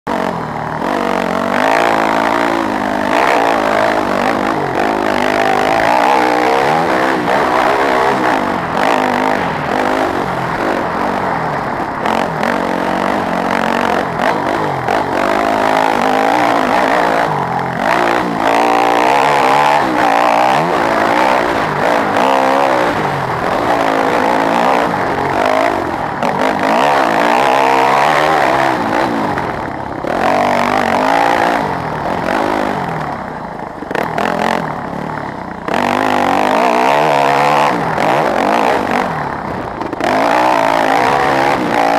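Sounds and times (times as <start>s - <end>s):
dirt bike engine revving: 0.1s - 41.9s.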